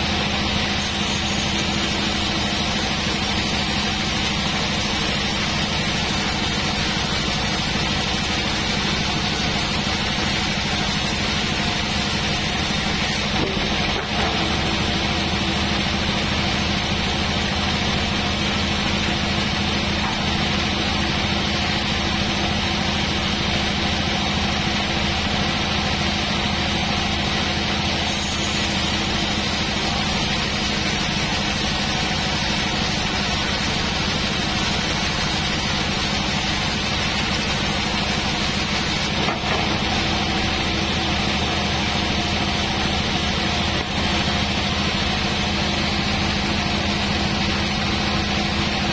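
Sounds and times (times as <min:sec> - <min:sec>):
band saw cutting wood: 0:00.6 - 0:21.3, 0:27.8 - 0:48.9.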